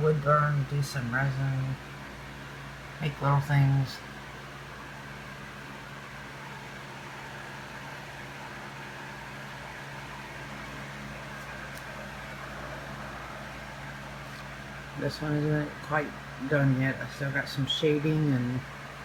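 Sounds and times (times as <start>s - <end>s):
low machine hum with whine: 0.0s - 19.0s.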